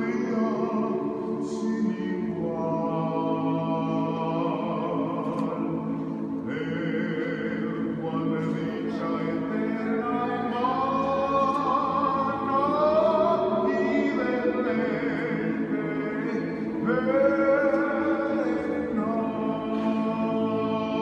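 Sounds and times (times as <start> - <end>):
men's choir singing a cappella: 0.0 - 21.0.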